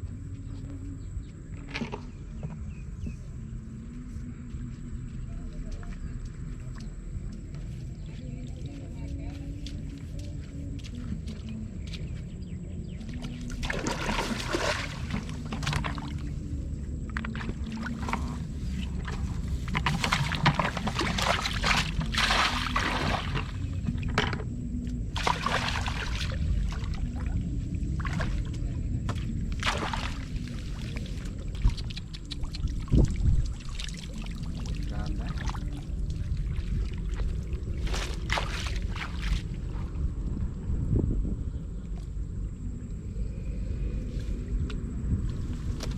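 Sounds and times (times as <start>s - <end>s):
steady low rumble: 0.0s - 45.9s
water splashing and sloshing: 4.0s - 45.9s.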